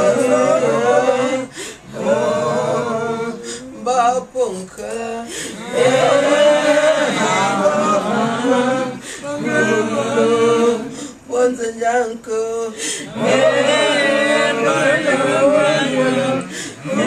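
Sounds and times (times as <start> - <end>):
group singing unaccompanied: 0.0 - 4.2, 5.4 - 11.9, 13.0 - 17.0.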